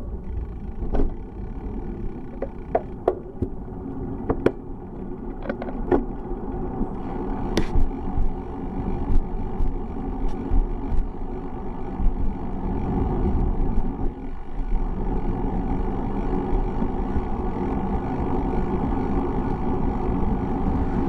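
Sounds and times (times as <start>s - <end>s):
bicycle road and wind noise: 0.0s - 21.0s.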